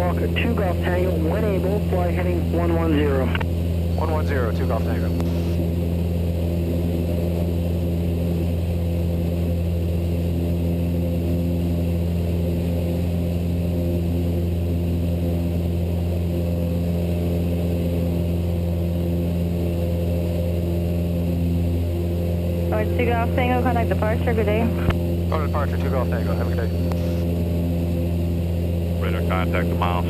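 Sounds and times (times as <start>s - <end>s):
airplane engine and propeller drone: 0.0s - 30.0s.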